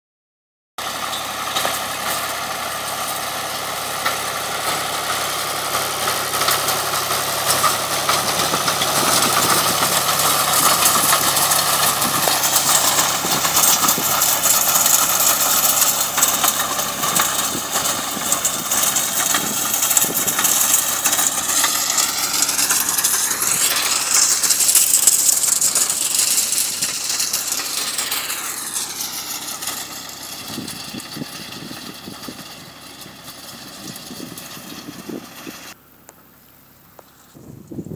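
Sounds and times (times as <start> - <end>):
tractor diesel engine running: 0.8 - 37.9.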